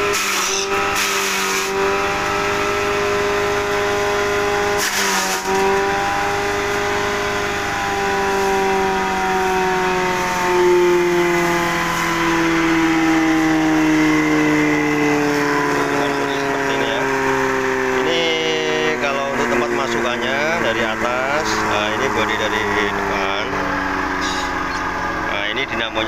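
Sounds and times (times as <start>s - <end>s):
electric grass chopper whining: 0.0s - 26.0s.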